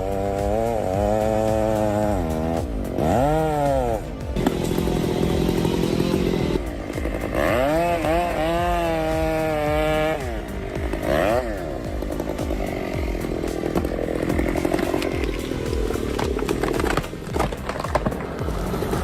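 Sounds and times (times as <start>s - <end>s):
chainsaw cutting into tree trunk: 0.0s - 19.0s.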